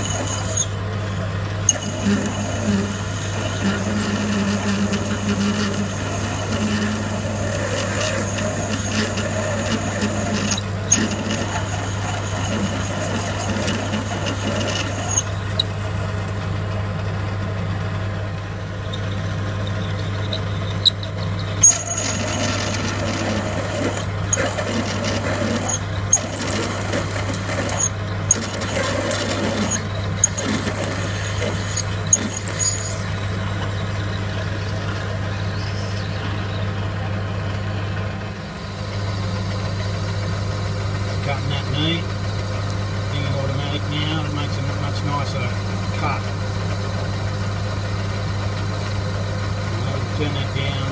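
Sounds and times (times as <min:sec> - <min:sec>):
drill squealing: 0:00.0 - 0:16.5, 0:18.5 - 0:37.3, 0:38.2 - 0:50.9
lathe motor hum: 0:00.0 - 0:50.9.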